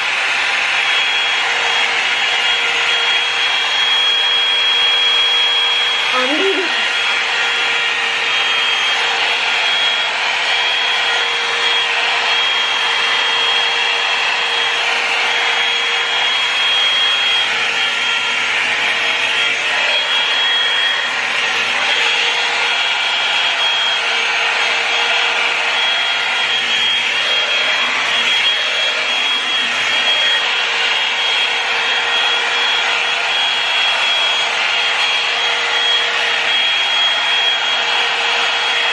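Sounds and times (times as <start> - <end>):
hair dryer blowing with motor whine: 0.0 - 38.9.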